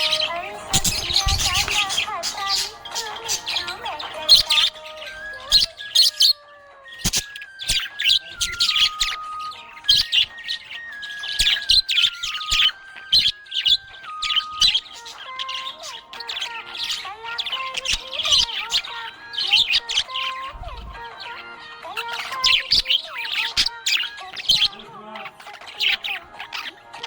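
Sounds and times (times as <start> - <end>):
budgerigar chirping: 0.0 - 27.0
simple background tune: 0.0 - 27.0.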